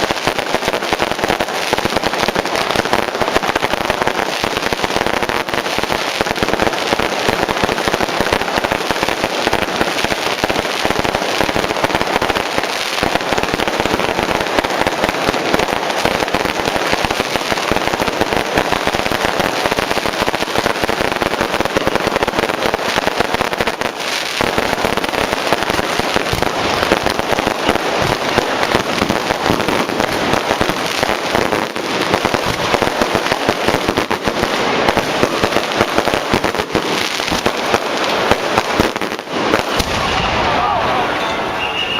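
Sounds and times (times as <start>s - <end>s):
firecrackers popping: 0.0s - 41.9s.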